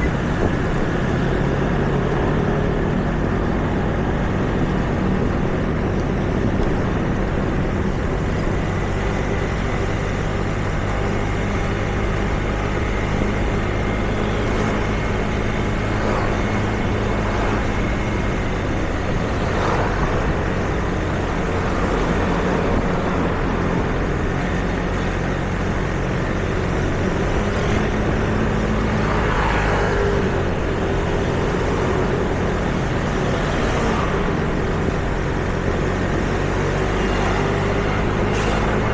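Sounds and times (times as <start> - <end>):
traffic engine hum: 0.0 - 38.9
vehicles passing: 0.0 - 38.9.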